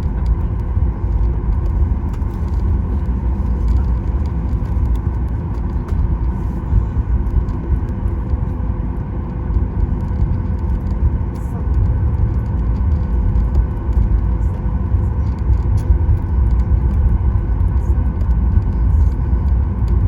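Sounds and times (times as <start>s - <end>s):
aircraft cabin rumble: 0.0s - 20.0s
jet engines humming at idle: 0.0s - 20.0s.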